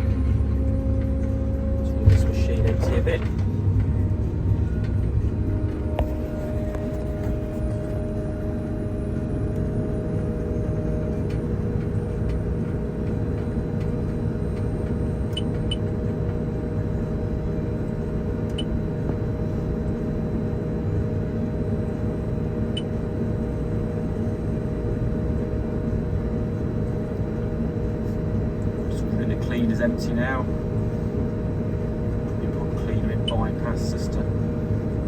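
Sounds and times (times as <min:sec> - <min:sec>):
harvester mechanical rumble: 0:00.0 - 0:35.0.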